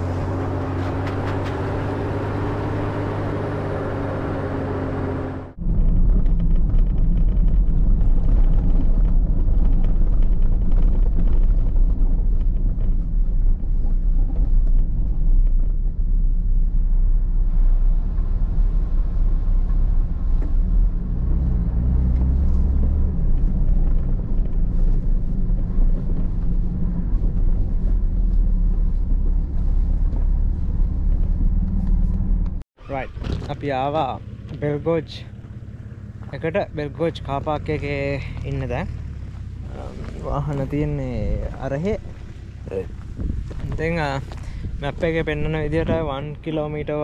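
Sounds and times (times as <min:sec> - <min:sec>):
vehicle driving on gravel road: 0:00.0 - 0:47.0.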